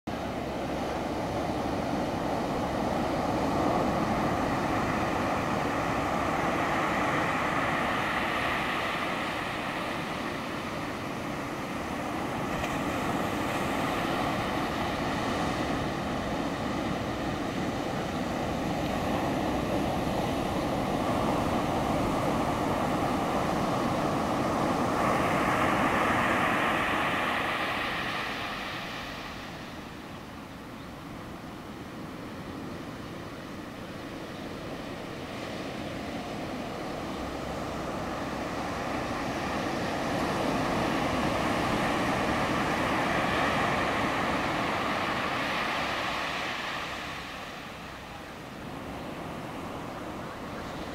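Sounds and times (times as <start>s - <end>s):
ocean surf washing among rocks: 0.1s - 50.9s.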